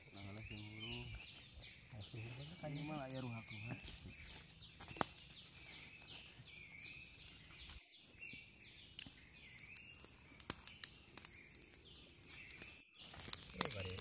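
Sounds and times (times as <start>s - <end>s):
faint bird chirps: 0.0s - 14.0s
smouldering fire crackles: 0.0s - 14.0s.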